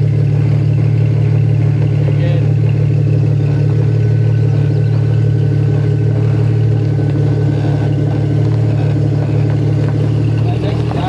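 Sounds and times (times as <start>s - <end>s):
vehicle engine humming at low revs: 0.0s - 11.0s.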